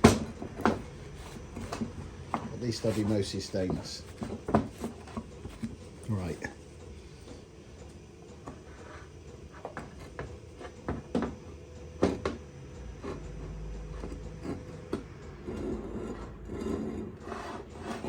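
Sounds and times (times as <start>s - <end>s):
tools clicking and clunking on bench: 0.0s - 8.7s, 9.5s - 18.0s.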